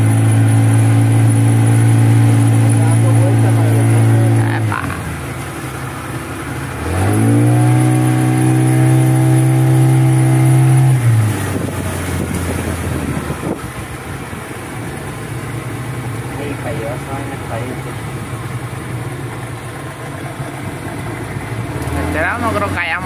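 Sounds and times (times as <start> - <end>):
outboard motor revving: 0.0 - 23.0.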